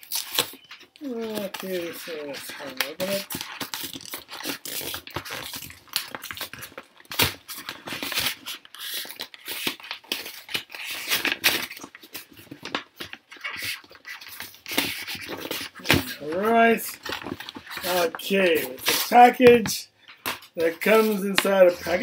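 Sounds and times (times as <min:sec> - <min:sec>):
cardboard rustling and tearing: 0:00.0 - 0:19.6, 0:20.2 - 0:22.0.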